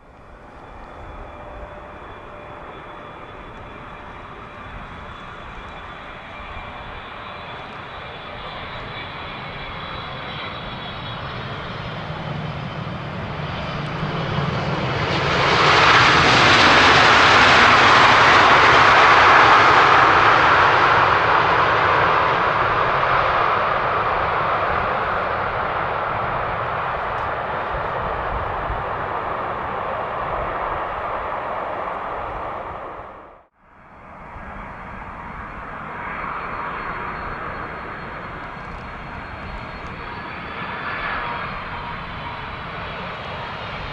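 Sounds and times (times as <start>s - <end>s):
jet airliner engines roaring: 0.0s - 43.9s.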